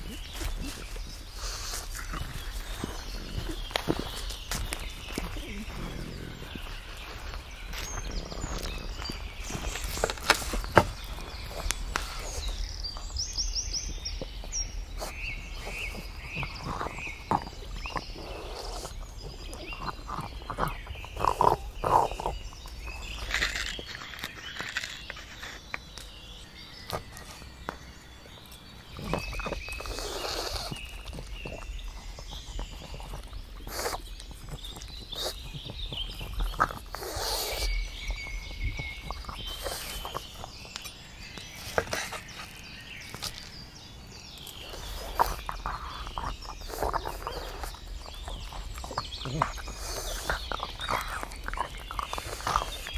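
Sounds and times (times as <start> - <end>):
dog snuffling breath: 0.0 - 24.1, 25.1 - 52.9
birds singing: 0.0 - 52.9
dog chewing on a bone: 0.0 - 52.9.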